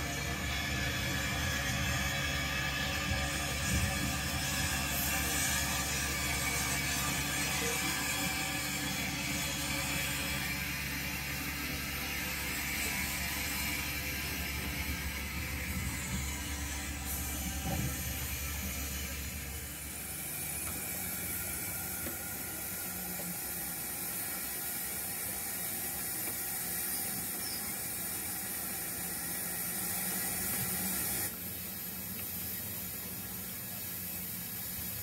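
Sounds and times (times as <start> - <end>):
model train rattling on track: 0.0 - 31.4
low hum: 0.0 - 31.7.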